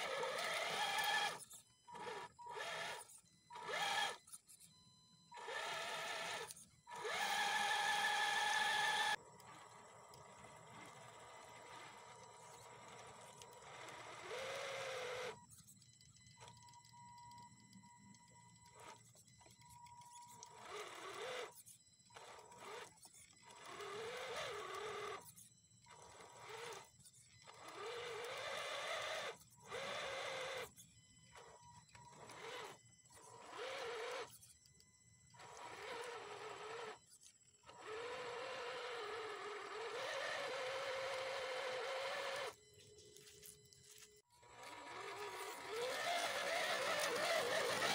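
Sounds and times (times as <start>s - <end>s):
electric motor and gearbox whining: 0.0s - 47.9s.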